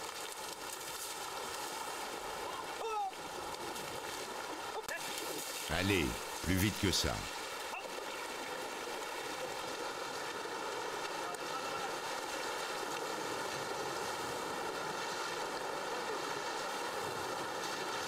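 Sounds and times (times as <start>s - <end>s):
elephants wading through water: 0.0s - 6.4s, 7.3s - 18.0s
shallow river water rushing: 0.0s - 18.0s.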